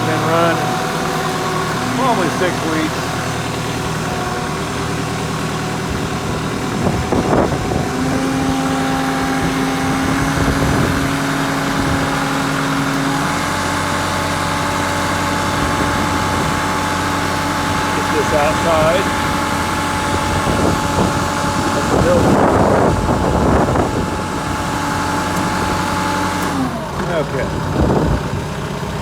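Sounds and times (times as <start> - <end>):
steady whine: 0.0 - 26.4
tractor diesel engine idling: 0.0 - 29.0.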